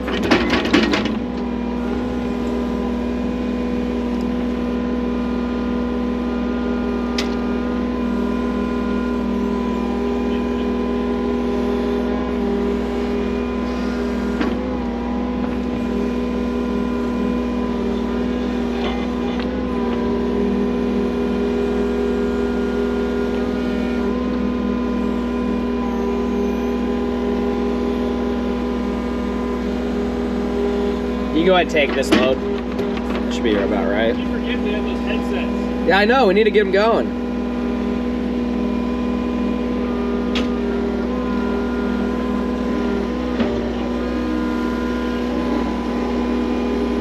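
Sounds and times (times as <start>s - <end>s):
heavy digging equipment engine: 0.0s - 47.0s.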